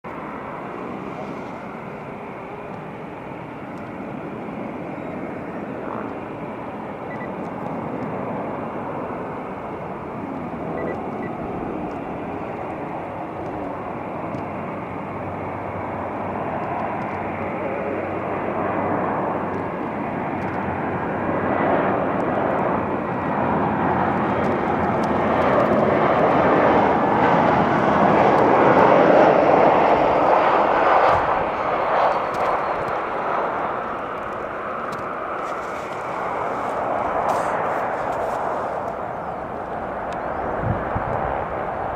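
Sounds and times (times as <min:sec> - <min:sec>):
jet airliner engine noise: 0:00.0 - 0:41.9.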